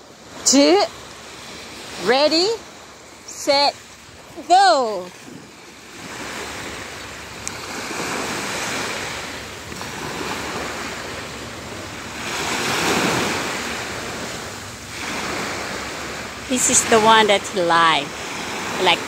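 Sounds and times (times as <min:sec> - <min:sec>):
small waves washing onto beach: 0:00.0 - 0:19.0.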